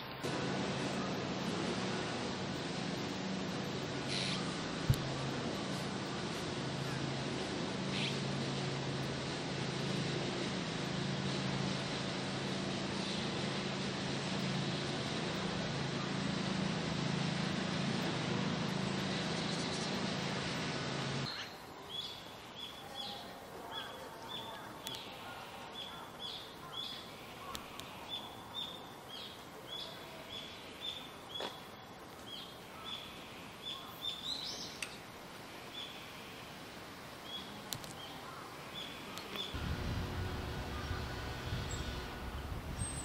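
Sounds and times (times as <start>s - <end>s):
noisy hum: 0.0s - 43.0s.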